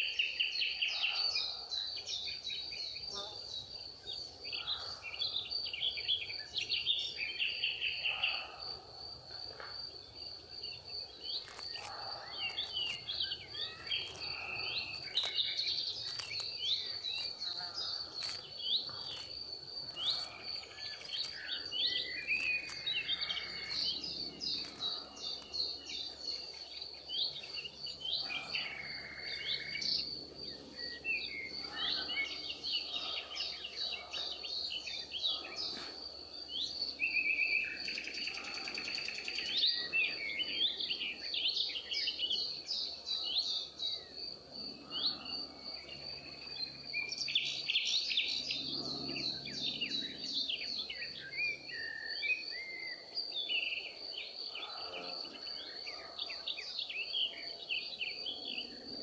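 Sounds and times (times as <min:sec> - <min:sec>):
birds chirping and calling: 0:00.0 - 0:09.7, 0:10.4 - 0:59.0
high-pitched insect trill: 0:00.0 - 0:56.8.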